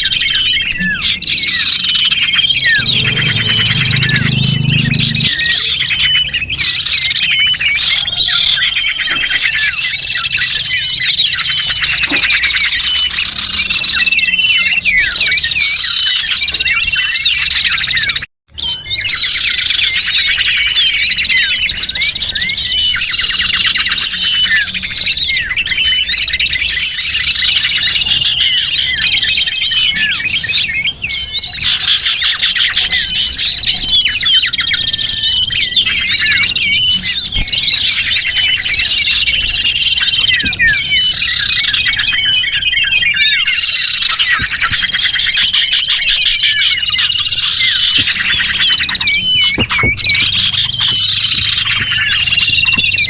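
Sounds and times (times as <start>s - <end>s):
small birds chattering: 0.0s - 53.0s.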